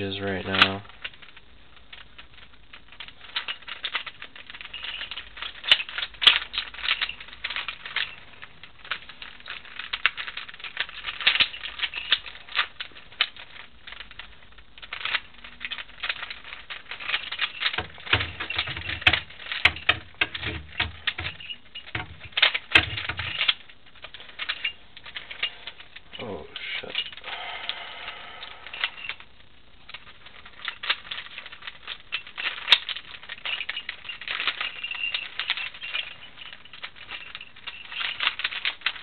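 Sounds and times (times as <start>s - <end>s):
plastic puzzle clicking and rattling: 0.0s - 39.0s.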